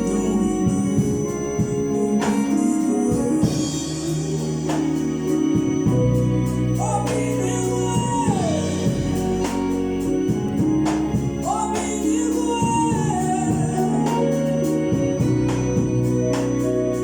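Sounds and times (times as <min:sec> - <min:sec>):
gospel choir singing: 0:00.0 - 0:17.0
lead voice singing: 0:00.0 - 0:17.0
percussion hits: 0:00.0 - 0:17.0
sustained organ: 0:00.0 - 0:17.0.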